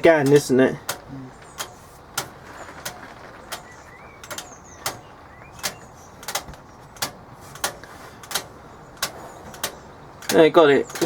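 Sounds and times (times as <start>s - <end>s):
washing machine programmer clicking: 0.0s - 11.0s.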